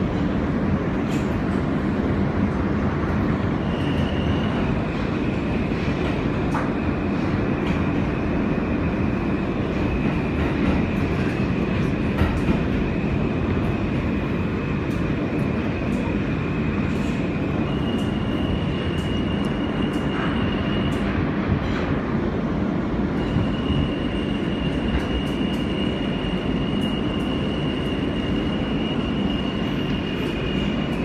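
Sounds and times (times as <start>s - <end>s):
subway car wheels rumbling: 0.0s - 31.0s.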